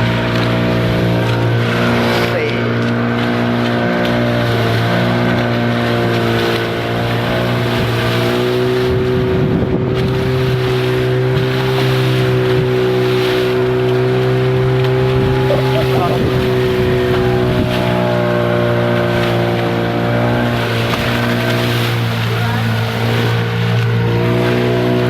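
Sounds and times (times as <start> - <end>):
boat engine running: 0.0 - 25.0
wind and water hiss: 0.0 - 25.0.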